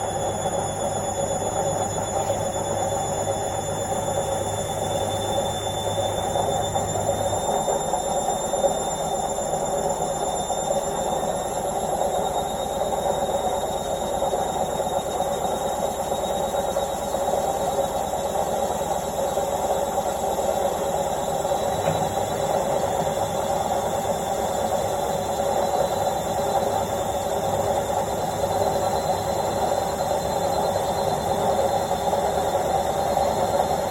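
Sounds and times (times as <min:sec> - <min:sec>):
high-pitched whine: 0:00.0 - 0:33.9
washing machine spinning: 0:00.0 - 0:33.9.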